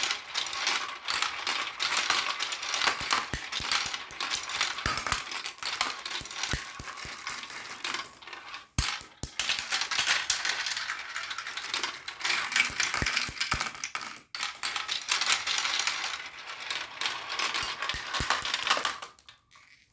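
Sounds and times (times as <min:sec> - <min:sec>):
marbles rattling along a marble run: 0:00.0 - 0:19.9.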